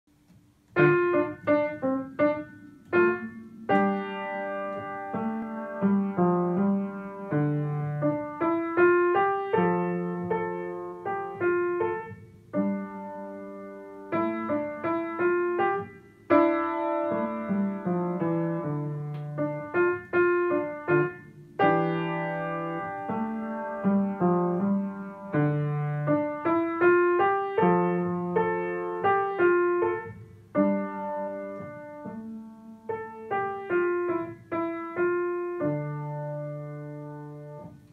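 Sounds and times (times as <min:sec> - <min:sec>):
acoustic piano playing: 0:00.1 - 0:37.9.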